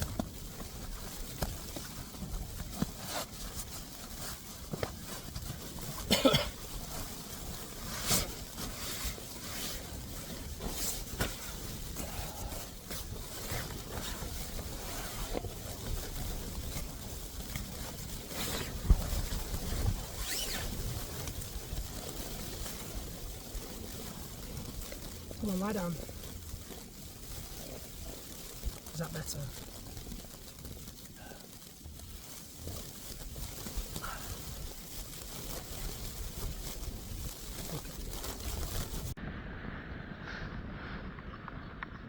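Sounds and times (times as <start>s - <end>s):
tent fabric and gear rustling: 0.0s - 39.2s
blizzard wind hiss: 0.0s - 41.7s.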